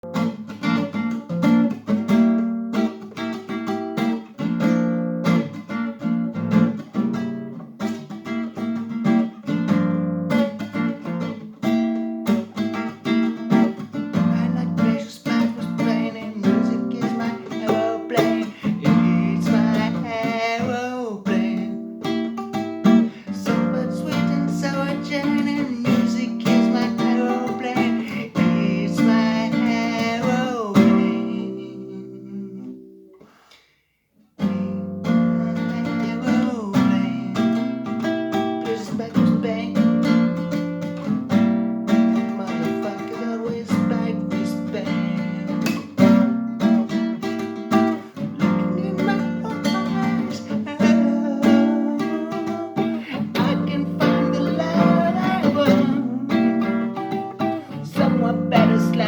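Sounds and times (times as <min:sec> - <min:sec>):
acoustic guitar riff: 0:00.0 - 0:33.6, 0:34.4 - 0:59.0.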